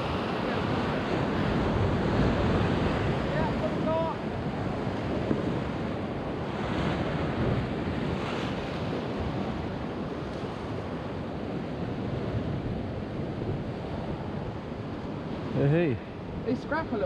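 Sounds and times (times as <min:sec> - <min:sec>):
sea waves washing against rocks: 0:00.0 - 0:17.0
wind buffeting the microphone: 0:00.0 - 0:17.0.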